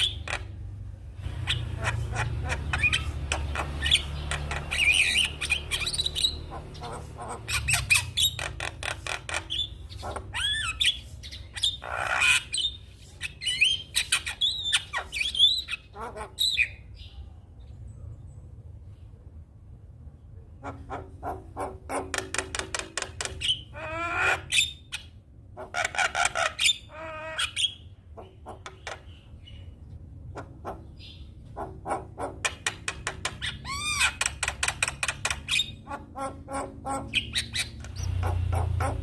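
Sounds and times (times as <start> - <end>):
bird whistling and warbling: 0.0 - 0.5, 1.3 - 17.1, 23.2 - 29.8, 30.4 - 39.0.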